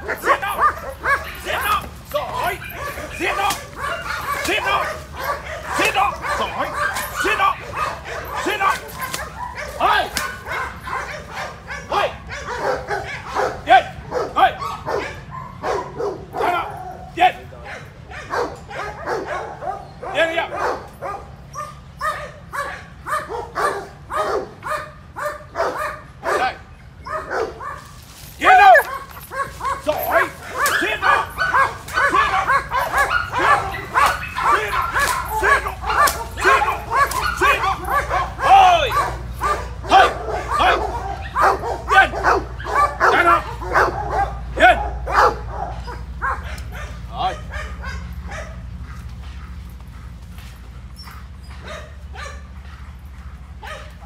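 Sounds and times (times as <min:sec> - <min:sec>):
dog barking: 0:00.0 - 0:54.0.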